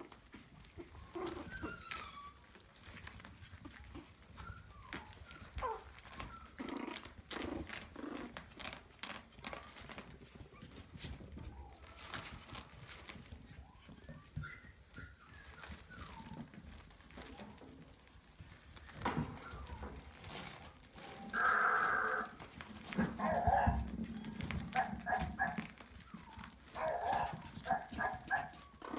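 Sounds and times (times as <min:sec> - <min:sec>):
rustling and scratching: 0:00.0 - 0:28.9
puppy yelp: 0:00.3 - 0:08.8, 0:09.5 - 0:17.7, 0:18.7 - 0:28.9
puppies whimpering squeaks: 0:00.3 - 0:28.9.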